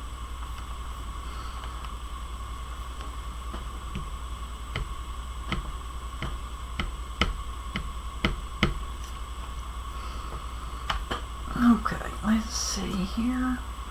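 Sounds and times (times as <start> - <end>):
electrical hum: 0.0 - 13.9
faint whine: 0.0 - 13.9.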